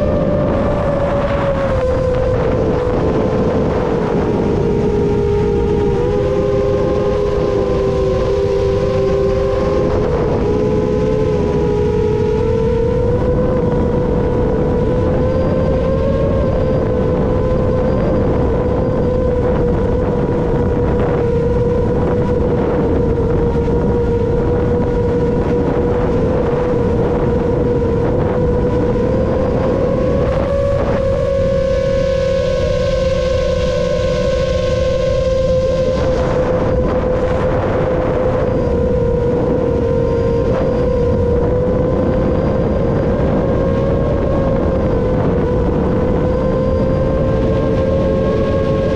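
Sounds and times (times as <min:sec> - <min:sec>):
drone propellers buzzing: 0:00.0 - 0:48.9
low rushing noise: 0:00.0 - 0:48.9.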